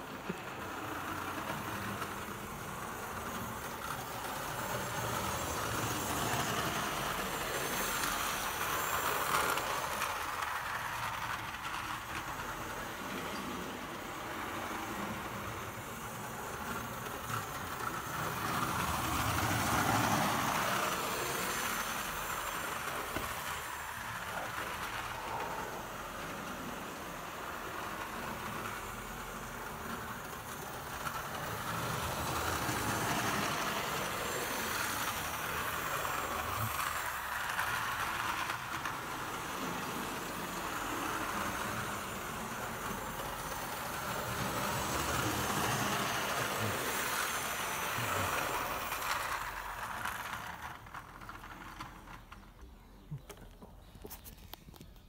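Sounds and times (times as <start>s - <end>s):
model train motor whirr: 0.0s - 52.6s
wheels rattling on rails: 0.0s - 54.2s.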